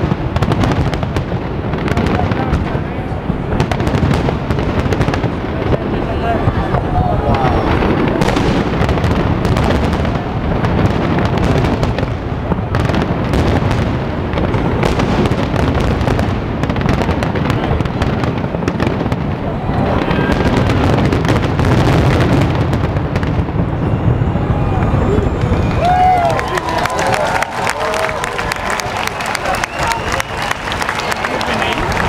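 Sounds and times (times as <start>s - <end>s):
firework booms: 0.0s - 30.4s
firework crackling: 0.0s - 32.0s.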